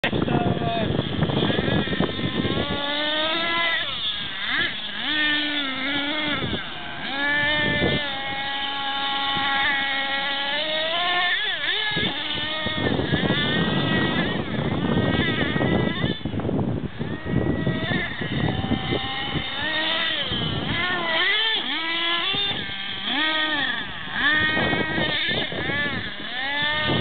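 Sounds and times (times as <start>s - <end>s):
small engine revving whine: 0.0s - 27.0s.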